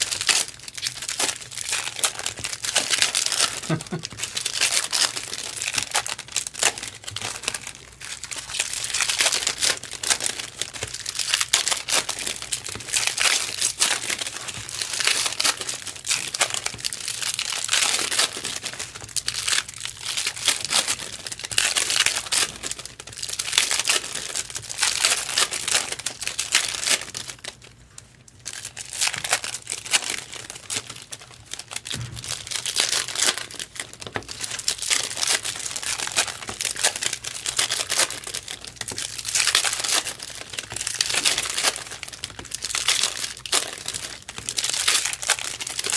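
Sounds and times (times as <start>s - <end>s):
foil wrappers crinkling and tearing: 0.0s - 45.9s.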